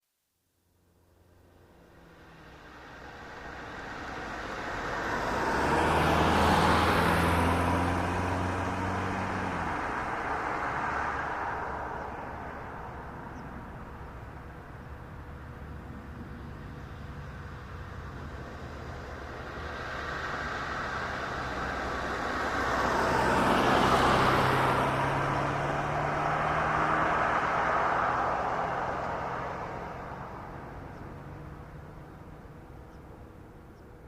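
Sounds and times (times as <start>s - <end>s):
car driving past: 0.8s - 33.6s.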